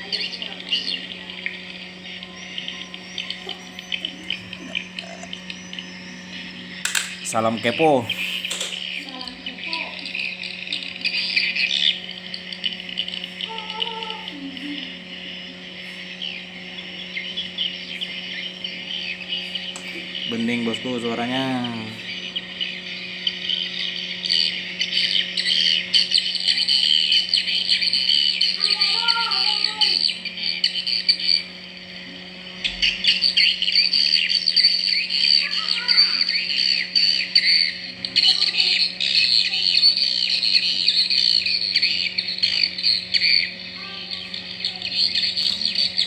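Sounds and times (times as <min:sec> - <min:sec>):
swiftlets chirping: 0:00.0 - 0:31.9, 0:32.6 - 0:46.0
steady low hum: 0:00.0 - 0:46.0.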